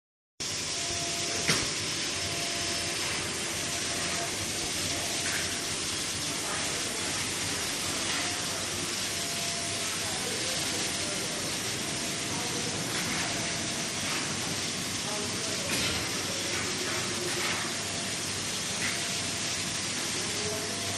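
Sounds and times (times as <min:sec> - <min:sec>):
welding machine hissing: 0:00.4 - 0:20.9.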